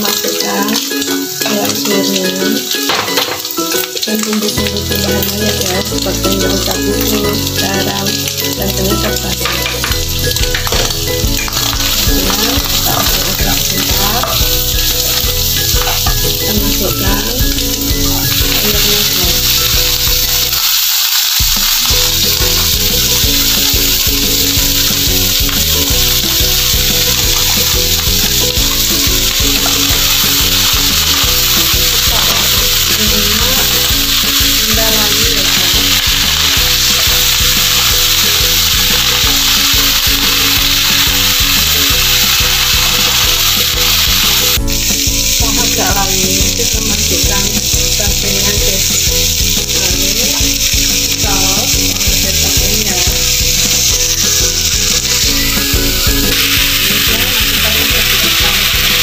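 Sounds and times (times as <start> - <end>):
greens sizzling in a wok: 0.0 - 59.0.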